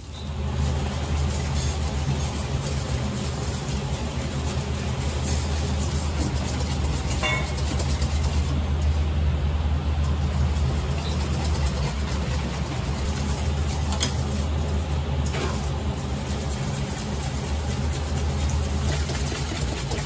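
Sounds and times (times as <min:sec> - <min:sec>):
kitchen machinery low hum: 0:00.0 - 0:20.0.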